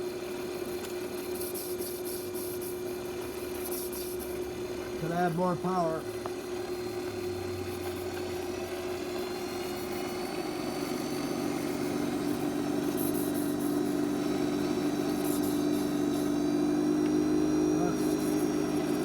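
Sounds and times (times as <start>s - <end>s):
lathe running: 2.5s - 19.0s.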